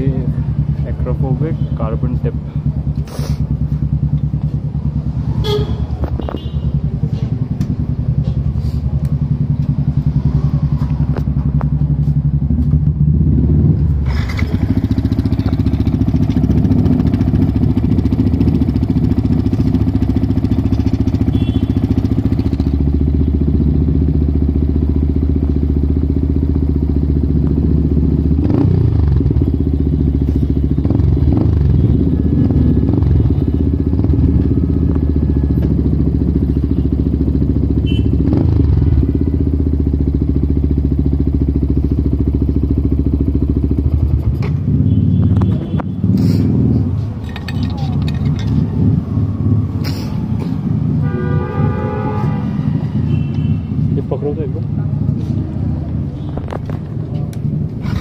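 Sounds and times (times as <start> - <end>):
motorcycle engine idling: 0.0 - 51.2.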